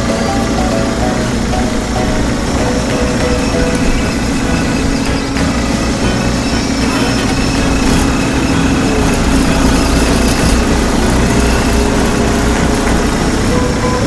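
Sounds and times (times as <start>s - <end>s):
heavy engine idling: 0.0s - 14.0s.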